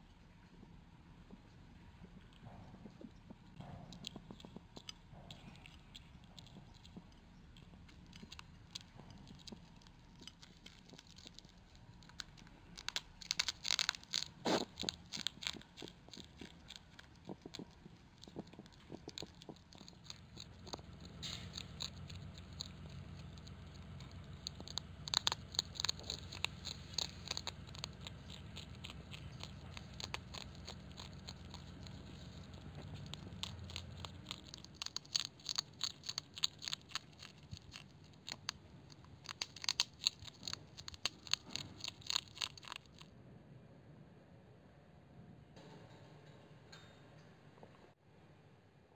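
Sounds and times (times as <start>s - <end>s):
hedgehog crunching kibble: 0.0s - 43.2s.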